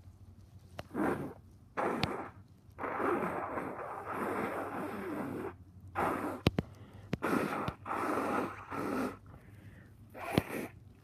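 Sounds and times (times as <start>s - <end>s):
congested nose sniffing: 0.8s - 9.3s, 10.1s - 10.8s.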